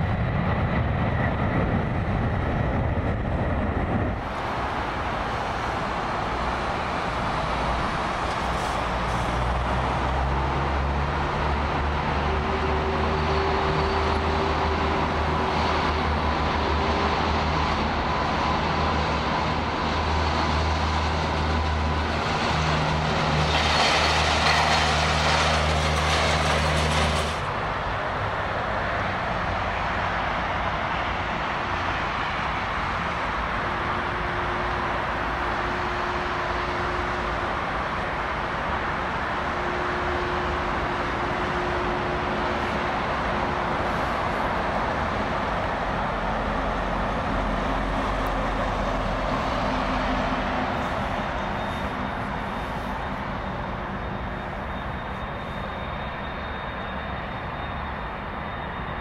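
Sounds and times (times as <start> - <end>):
jet engines humming and whining: 0.0 - 59.0.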